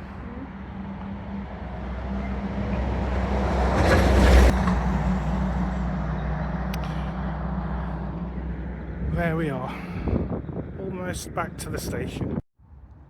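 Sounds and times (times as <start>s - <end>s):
vehicle passing by: 0.0s - 10.8s
low engine hum: 0.0s - 11.6s.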